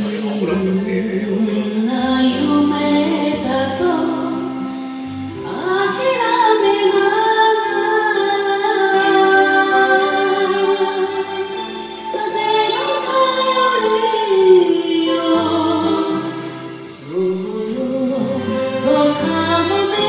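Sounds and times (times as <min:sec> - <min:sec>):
karaoke backing track: 0:00.0 - 0:20.0
person singing a ballad: 0:00.0 - 0:20.0.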